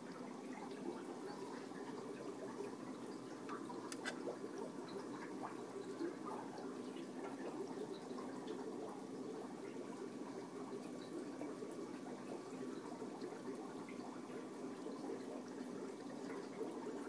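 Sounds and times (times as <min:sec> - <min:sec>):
aquarium water bubbling: 0:00.0 - 0:17.0.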